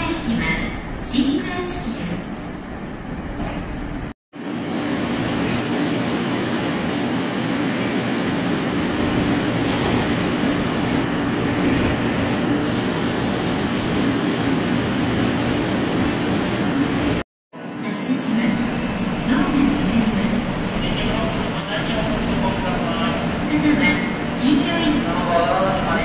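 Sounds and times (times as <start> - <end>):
train equipment whirring hum: 0.0 - 26.0.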